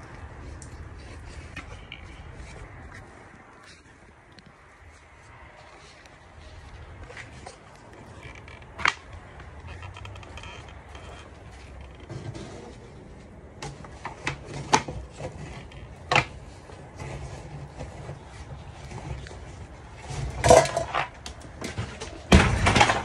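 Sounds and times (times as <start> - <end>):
low rumble of handling noise: 0.0 - 23.0.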